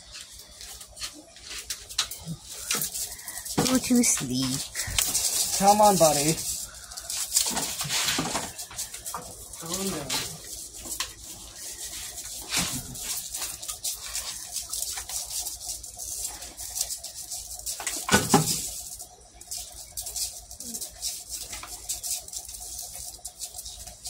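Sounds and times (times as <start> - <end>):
claws scratching on concrete: 0.2 - 24.0.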